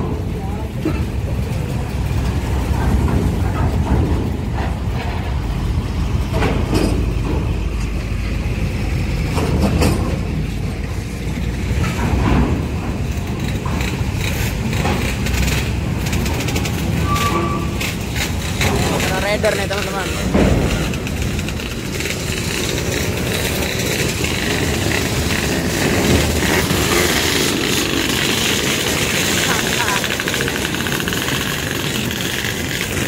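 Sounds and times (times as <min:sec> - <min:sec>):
truck engine rumble: 0:00.0 - 0:33.0
wheels clanking over metal ramp: 0:00.0 - 0:33.0.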